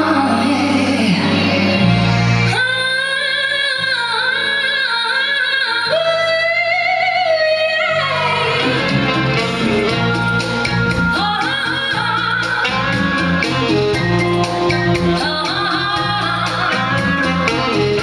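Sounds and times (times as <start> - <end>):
live band with bass: 0.0 - 18.0
woman singing with vibrato: 0.0 - 18.0.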